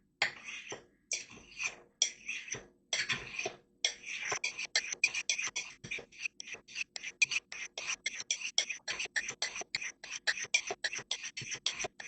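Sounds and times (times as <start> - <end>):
knife scraping on ceramic rods: 0.2 - 12.0.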